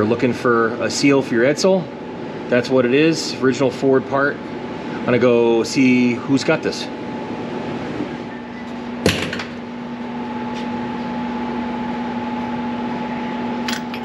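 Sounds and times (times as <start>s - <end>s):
fan-like background noise: 0.0s - 14.0s
machine hum: 0.0s - 14.0s.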